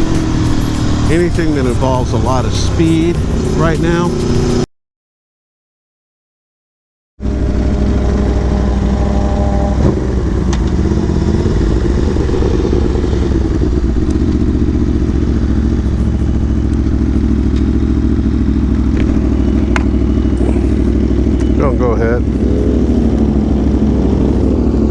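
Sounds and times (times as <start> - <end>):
motorcycle engine running: 0.0 - 4.7, 7.2 - 24.9.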